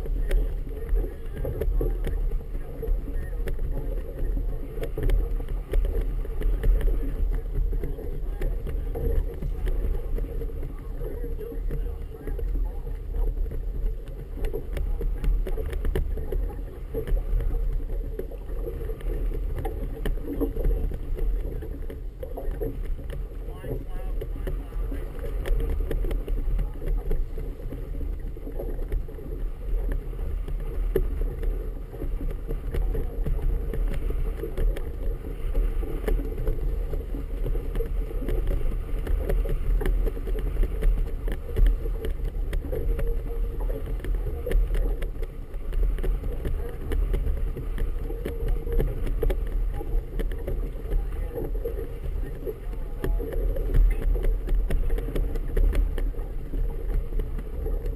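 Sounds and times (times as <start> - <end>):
water slapping and splashing: 0.0 - 57.9
wind buffeting microphone: 0.0 - 57.9.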